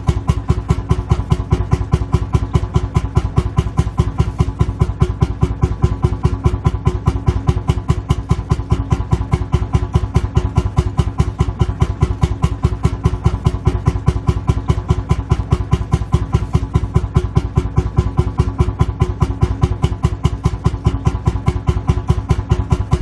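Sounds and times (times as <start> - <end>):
tractor engine chugging idle: 0.0 - 23.0.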